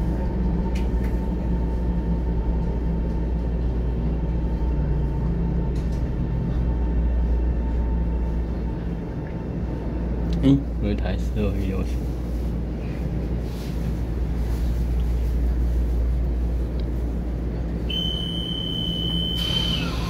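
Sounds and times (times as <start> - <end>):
faint constant whine: 0.0 - 20.0
train cabin low rumble: 0.0 - 20.0.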